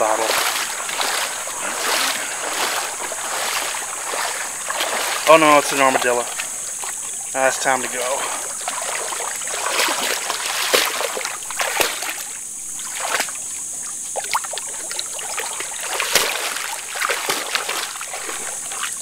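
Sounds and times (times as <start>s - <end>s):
dog splashing in water: 0.0s - 19.0s
steady high hiss: 0.0s - 19.0s.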